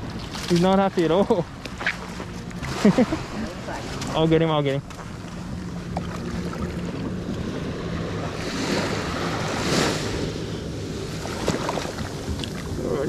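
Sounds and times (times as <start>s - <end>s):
wind rumbling on microphone: 0.0s - 13.0s
small waves washing on sand: 0.4s - 4.8s, 6.0s - 13.0s.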